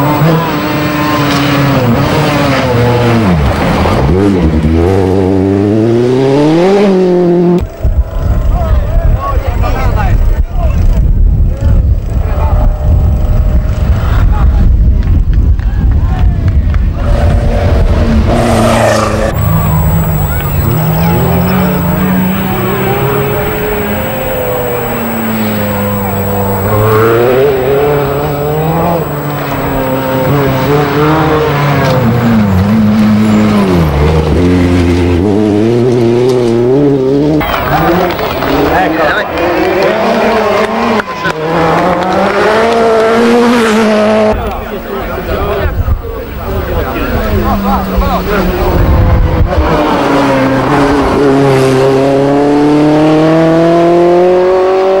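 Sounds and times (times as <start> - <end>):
rally car engine revving: 0.0 - 8.6, 16.5 - 55.0.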